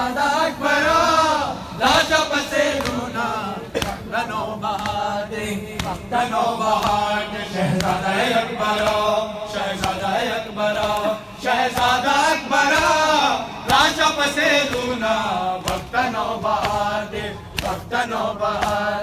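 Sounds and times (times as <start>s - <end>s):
men chanting a lament: 0.0s - 19.0s
sharp slaps: 1.8s - 19.0s.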